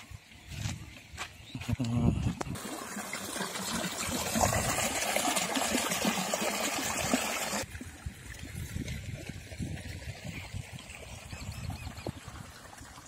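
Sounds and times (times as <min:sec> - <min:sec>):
water pouring and splashing: 0:02.5 - 0:13.0.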